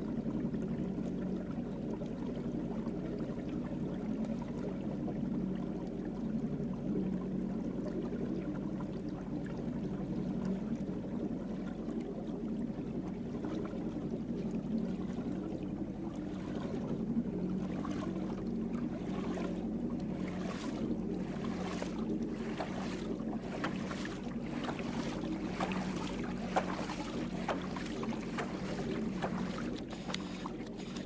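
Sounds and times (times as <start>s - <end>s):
boat motor running: 0.0s - 31.0s
water splashing or wind gusts: 0.0s - 31.0s.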